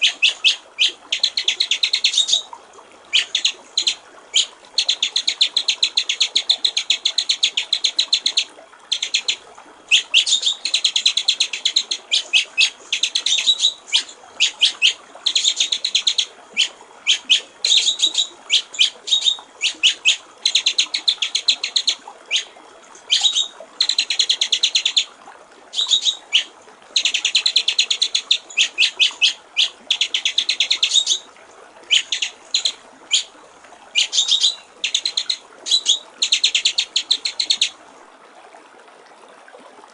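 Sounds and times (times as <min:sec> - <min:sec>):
bird singing rattling trills: 0:00.0 - 0:02.5, 0:03.1 - 0:25.1, 0:25.7 - 0:31.3, 0:31.9 - 0:33.3, 0:33.9 - 0:37.7
water trickling: 0:00.0 - 0:39.9.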